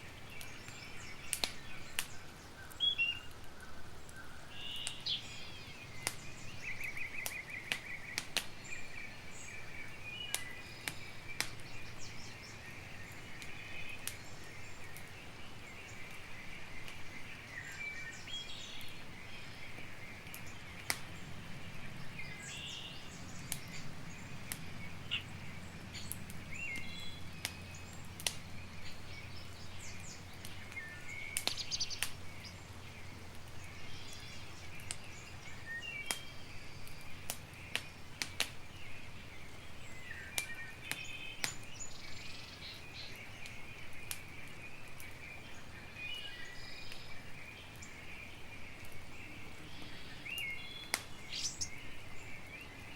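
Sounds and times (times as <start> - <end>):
birds chirping and trilling: 0.0 - 52.9
campfire crackling and popping: 0.0 - 52.9.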